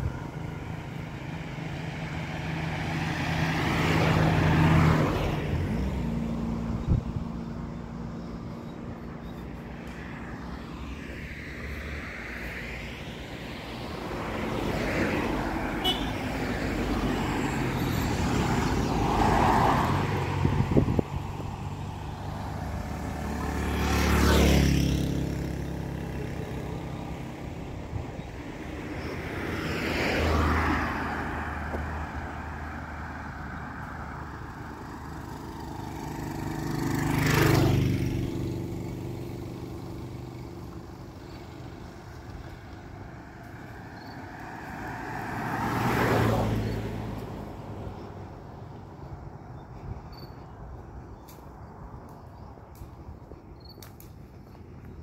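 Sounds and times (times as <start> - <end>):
motorcycle passing: 0.0 - 50.5
road vehicles driving past: 0.0 - 55.0.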